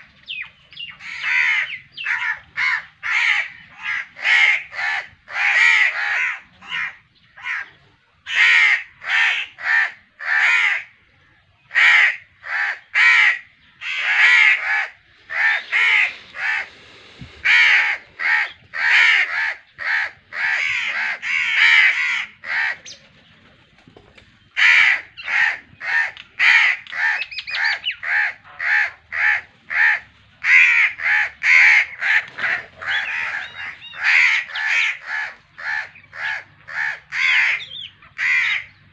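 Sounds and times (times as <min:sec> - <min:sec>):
crows cawing: 0:01.0 - 0:07.7, 0:08.3 - 0:10.9, 0:11.7 - 0:22.9, 0:24.6 - 0:38.7.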